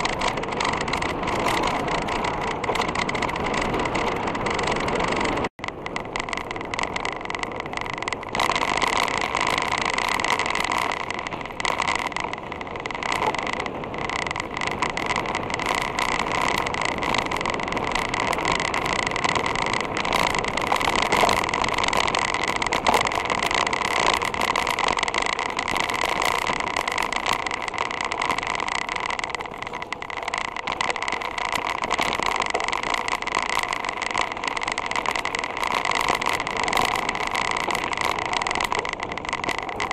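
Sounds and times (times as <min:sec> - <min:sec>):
bike rattling over gravel: 0:00.0 - 0:39.9
road noise: 0:00.0 - 0:39.9
wind noise: 0:00.0 - 0:39.9.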